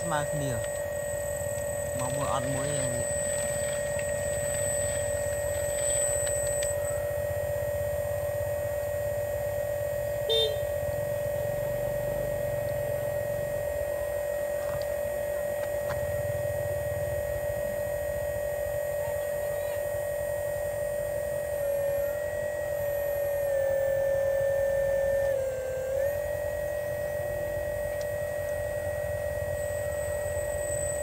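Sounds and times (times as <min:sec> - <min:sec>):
hydraulic pump motor whine: 0:00.0 - 0:31.0.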